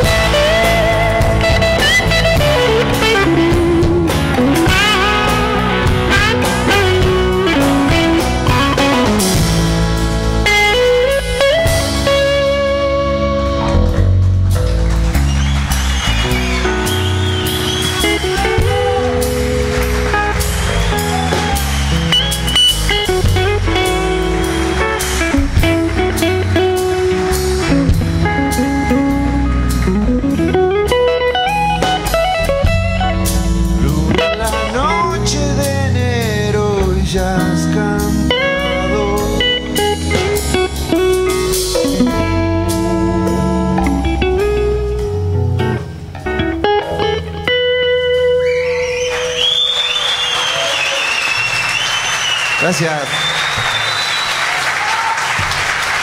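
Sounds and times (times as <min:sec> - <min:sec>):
electric bass line: 0:00.0 - 0:49.6
electric guitar lead lines: 0:00.0 - 0:54.2
rock band playing live: 0:00.0 - 0:56.0.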